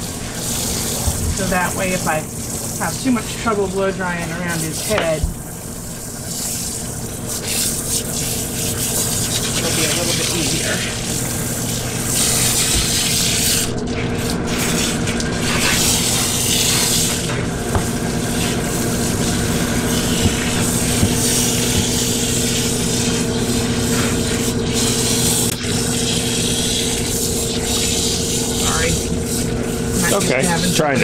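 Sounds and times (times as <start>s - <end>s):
water spray hissing: 4.4s - 30.8s.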